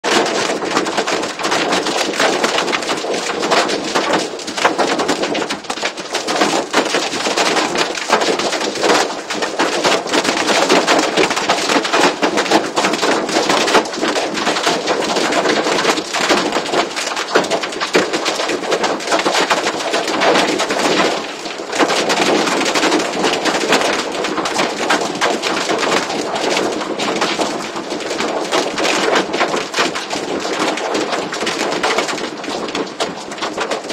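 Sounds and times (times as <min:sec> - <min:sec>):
hail and heavy rain pelting: 0:00.0 - 0:33.9.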